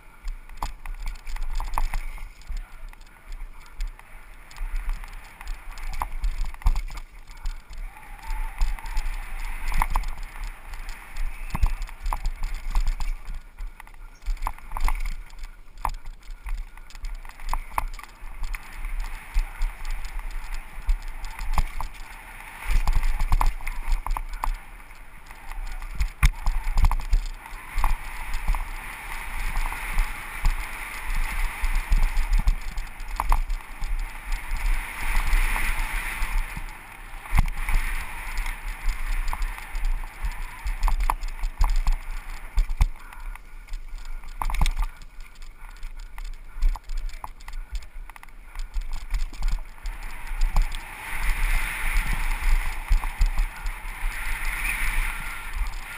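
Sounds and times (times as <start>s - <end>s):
bike tyre noise on dirt: 0.0s - 55.9s
wind rush: 0.2s - 55.9s.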